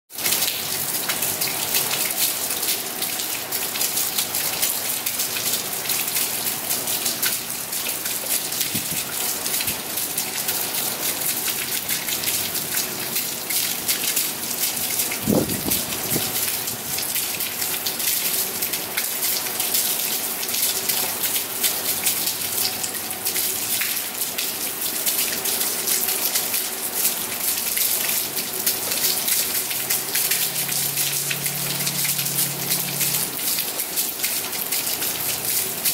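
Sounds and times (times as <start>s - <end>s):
heavy rain falling: 0.1s - 35.9s.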